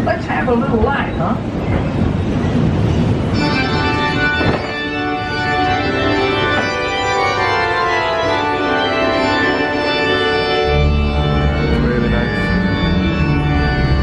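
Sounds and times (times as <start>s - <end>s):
organ playing slow chords: 2.6s - 14.0s.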